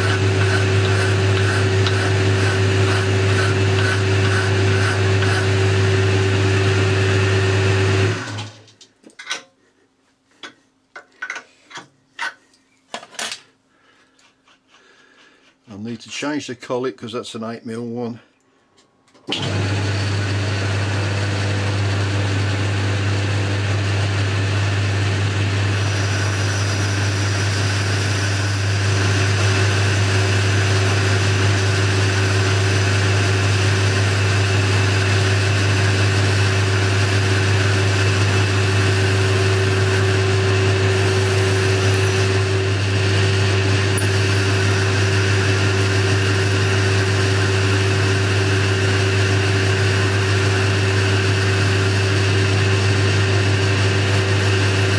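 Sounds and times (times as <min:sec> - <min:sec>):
lathe motor hum: 0:00.0 - 0:08.5, 0:19.3 - 0:54.9.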